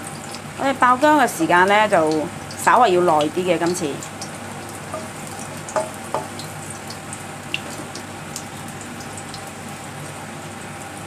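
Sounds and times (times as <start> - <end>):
ginger sizzling in hot oil: 0.0 - 11.0.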